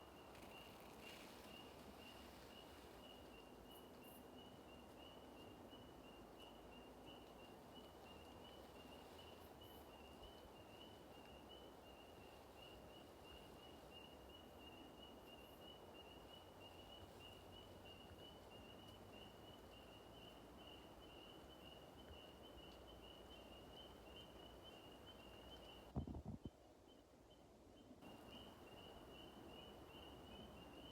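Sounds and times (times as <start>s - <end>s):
low background hiss: 0.0s - 30.9s.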